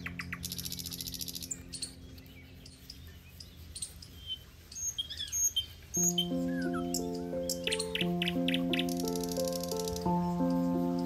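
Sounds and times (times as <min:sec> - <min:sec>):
background music tones: 0:00.0 - 0:05.0, 0:05.9 - 0:11.0
birds chirping: 0:00.0 - 0:11.0
high bird trill: 0:00.0 - 0:11.0.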